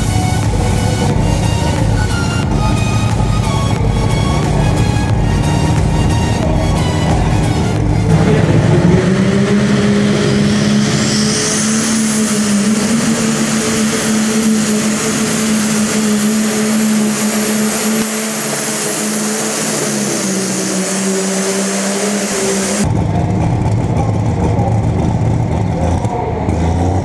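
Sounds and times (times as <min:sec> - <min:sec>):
turbo whistle: 0:00.0 - 0:22.8
diesel engine under load: 0:00.0 - 0:27.0.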